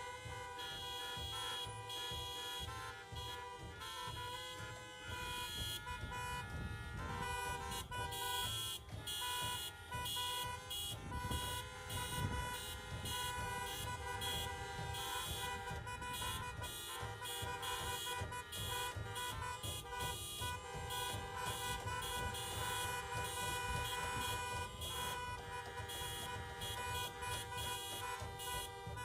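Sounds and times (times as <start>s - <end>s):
car horns honking: 0.0s - 29.0s.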